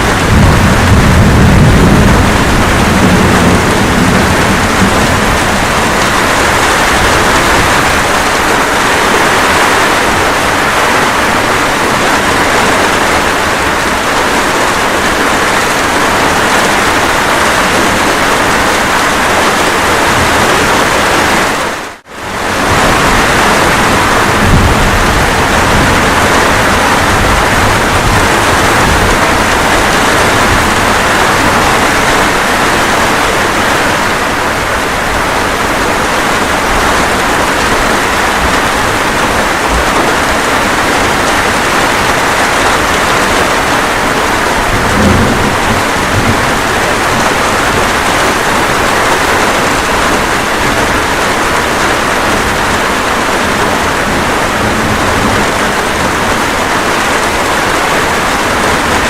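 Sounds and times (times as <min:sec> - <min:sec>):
steady rain: 0:00.0 - 0:59.0
thunder rumbling: 0:00.0 - 0:59.0.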